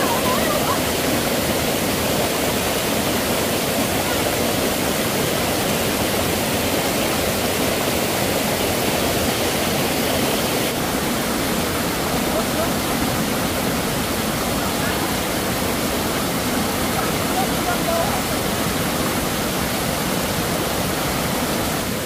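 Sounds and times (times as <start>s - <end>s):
stream cascading over rock: 0.0s - 22.0s.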